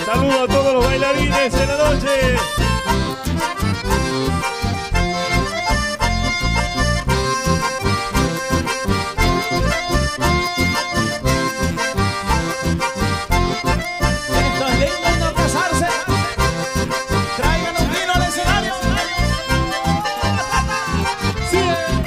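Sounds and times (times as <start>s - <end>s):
button accordions: 0.0s - 22.0s
strummed acoustic guitars: 0.0s - 22.0s.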